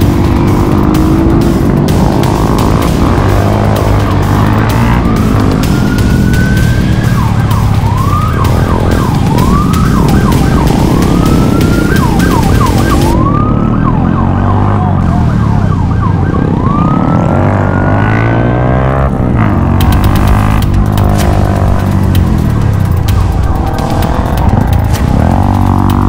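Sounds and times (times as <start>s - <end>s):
motorcycle engines droning: 0.0s - 26.0s
police siren wailing and yelping: 0.0s - 26.0s.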